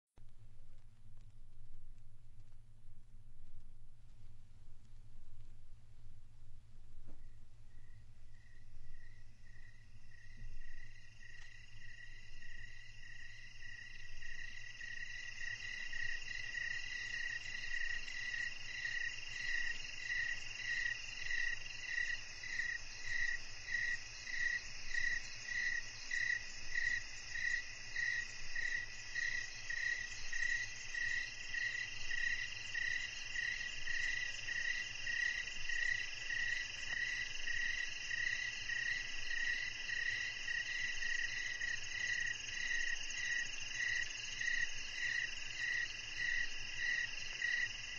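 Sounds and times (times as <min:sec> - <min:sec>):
cricket chirping: 0:07.1 - 0:47.9
insects trilling: 0:07.2 - 0:47.9.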